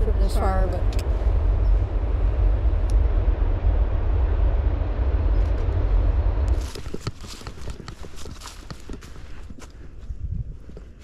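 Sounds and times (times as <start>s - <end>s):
loud low rumble: 0.0s - 9.4s.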